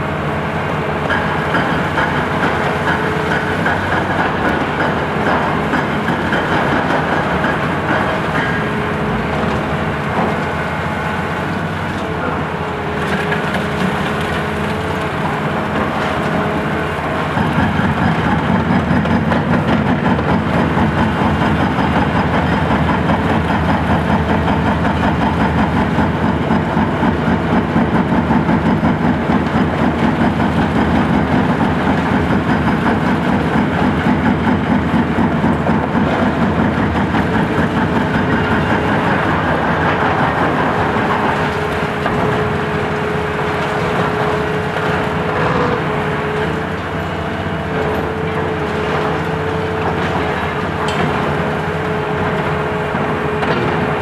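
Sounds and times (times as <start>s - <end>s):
excavator diesel engine and hydraulics: 0.0s - 54.0s.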